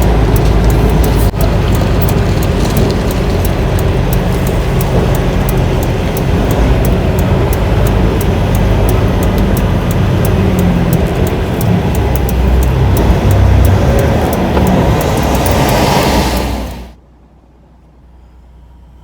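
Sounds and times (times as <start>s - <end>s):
music with ticking beat: 0.0s - 16.9s
diesel truck engine rumbling: 0.0s - 19.0s.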